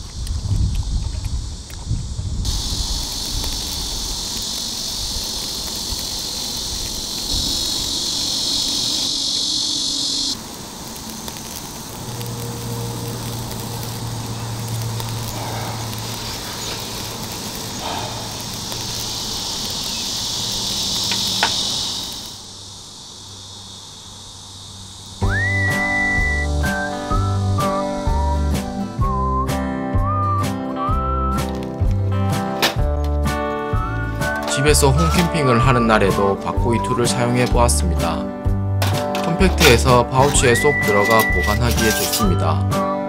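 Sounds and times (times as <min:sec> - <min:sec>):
meat sizzling on a grill: 0:02.4 - 0:29.1, 0:33.3 - 0:42.6.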